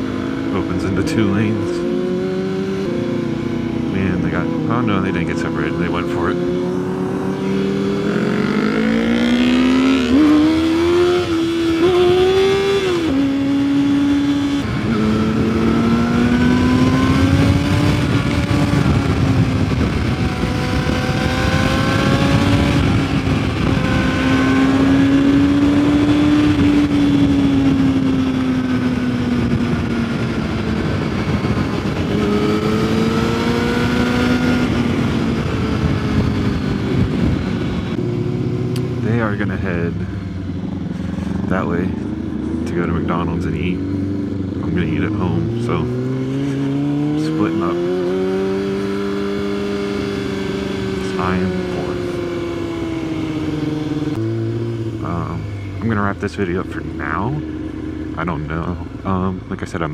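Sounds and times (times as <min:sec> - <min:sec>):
motorcycle engine accelerating: 0:00.0 - 0:59.9
wind noise: 0:06.4 - 0:59.9.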